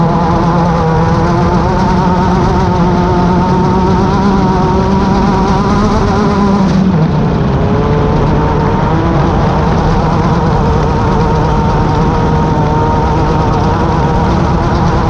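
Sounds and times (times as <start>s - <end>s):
low rumble: 0.0s - 15.0s
race car engine running: 0.0s - 15.0s.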